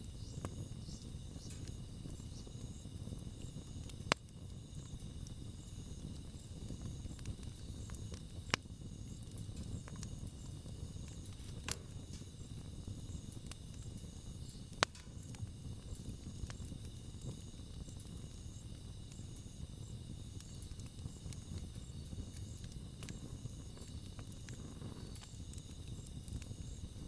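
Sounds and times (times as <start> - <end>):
campfire crackling: 0.0 - 27.0
fire popping: 0.0 - 27.0
insects chirping: 0.0 - 27.0.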